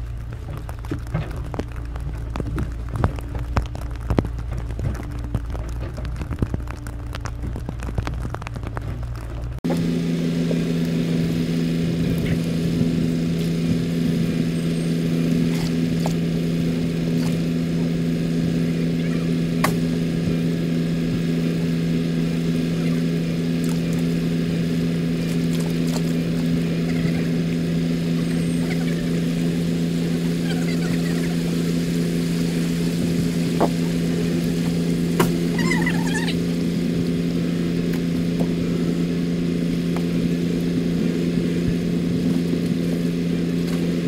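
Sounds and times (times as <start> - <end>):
excavator diesel engines droning: 0.0 - 44.0.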